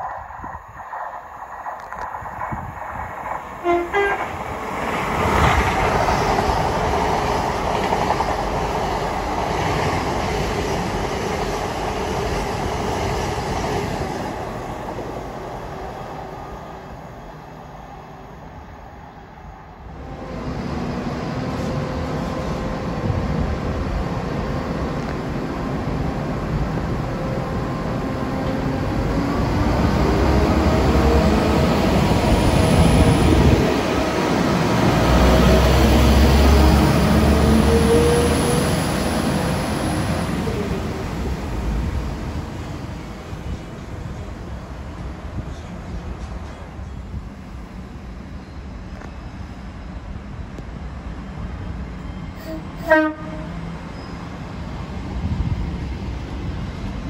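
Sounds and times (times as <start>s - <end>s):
diesel train engine drone: 0.0s - 57.0s
train passing at speed: 0.0s - 57.0s.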